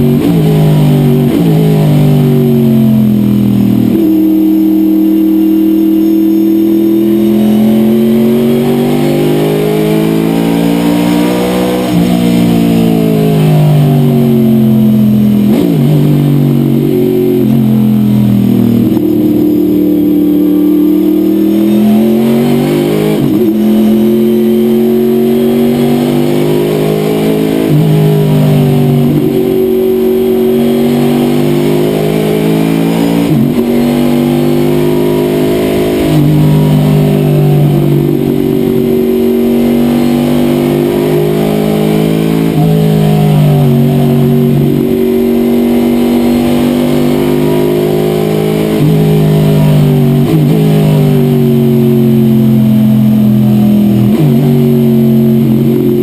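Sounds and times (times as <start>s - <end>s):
race car engine revving: 0.0s - 56.0s
throttle blips on downshifts: 0.0s - 56.0s.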